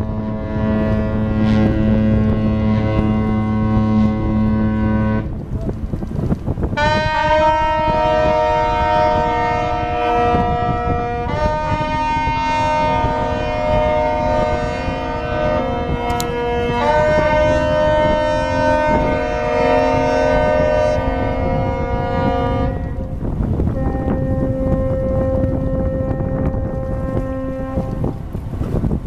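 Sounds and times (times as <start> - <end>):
deep ship horn: 0.0 - 29.0.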